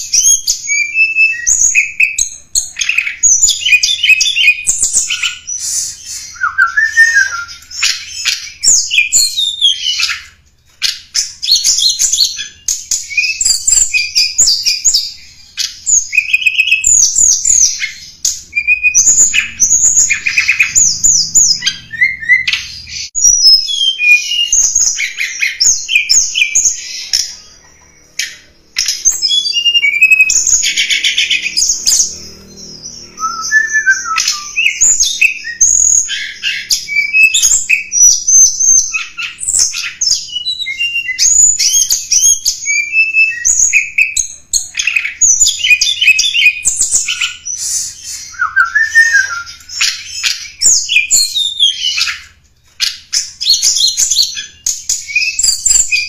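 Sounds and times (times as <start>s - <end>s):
songbird chirping and twittering: 0.0s - 56.0s.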